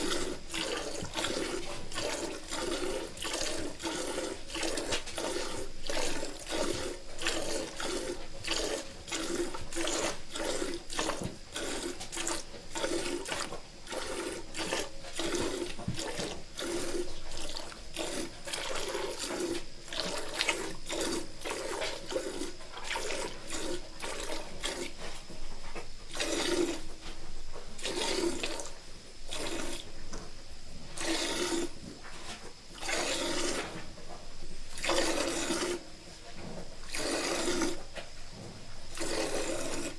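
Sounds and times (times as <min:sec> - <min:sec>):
milk squirting into a pail: 0:00.0 - 0:25.2, 0:26.1 - 0:27.0, 0:27.8 - 0:29.8, 0:31.0 - 0:31.8, 0:32.8 - 0:33.8, 0:34.7 - 0:35.8, 0:36.8 - 0:37.8, 0:38.9 - 0:39.9.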